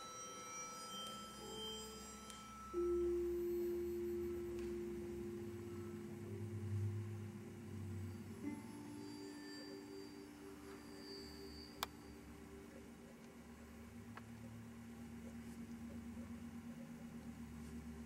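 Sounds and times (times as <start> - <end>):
faint high electronic tones: 0.0 - 18.0
low drone: 0.0 - 18.0
steady mid-pitched electronic tone: 0.0 - 18.0.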